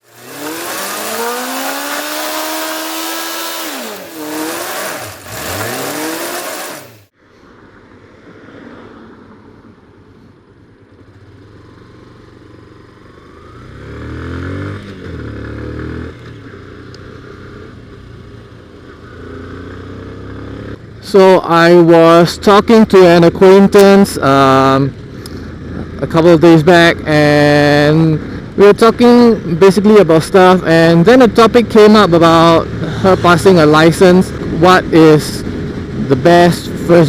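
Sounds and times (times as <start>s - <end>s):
motorcycle engine revving: 0.0s - 7.1s, 11.0s - 21.3s, 23.8s - 37.0s.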